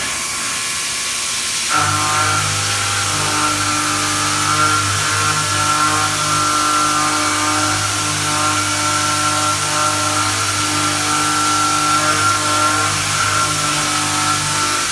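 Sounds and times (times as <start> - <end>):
machine tool whining: 1.7 - 14.9.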